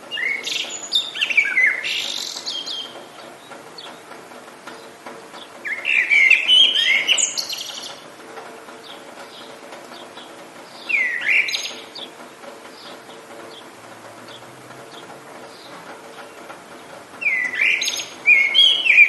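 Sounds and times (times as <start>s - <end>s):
faint rain hiss: 0.0s - 19.0s
songbirds warbling: 0.0s - 19.0s.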